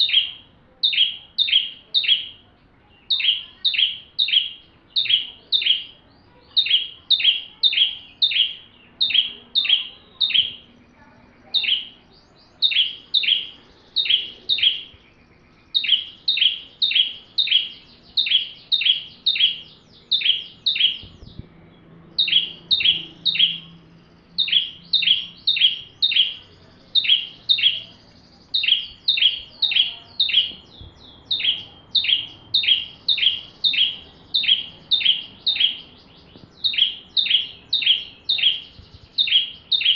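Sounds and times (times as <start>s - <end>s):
bird singing sharp high chirps: 0.0s - 39.9s.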